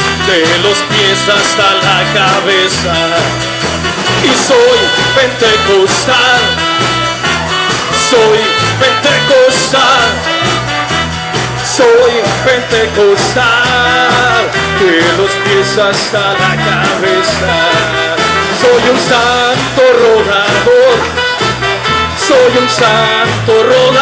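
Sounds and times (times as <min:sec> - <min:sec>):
band playing upbeat worship music: 0:00.0 - 0:24.0.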